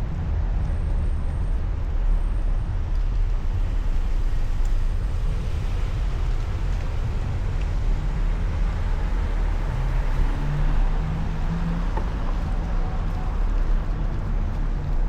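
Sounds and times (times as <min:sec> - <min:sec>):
traffic noise: 0:00.0 - 0:15.0
wind rumble on microphone: 0:00.0 - 0:15.0.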